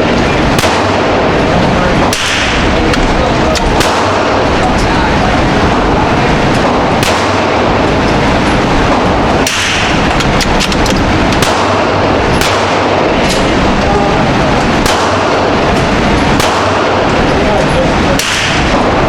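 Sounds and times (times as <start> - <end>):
gunshots: 0.0 - 19.0
steady loud background noise: 0.0 - 19.0.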